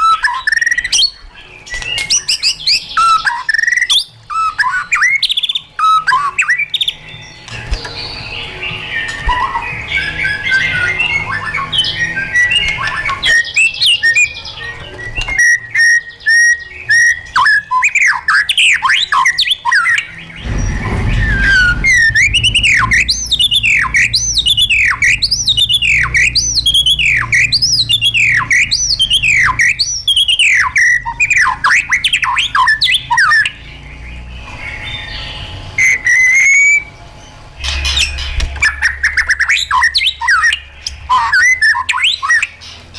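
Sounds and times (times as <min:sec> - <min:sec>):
bird singing: 0:00.0 - 0:42.9.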